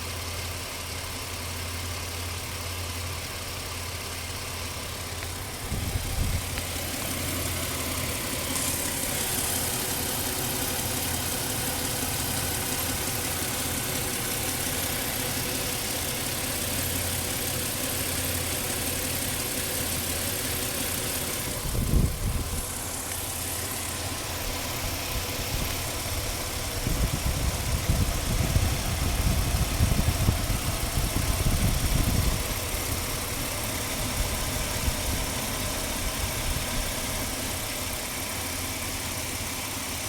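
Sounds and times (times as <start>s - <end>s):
car engine rough idle: 0.0s - 40.0s.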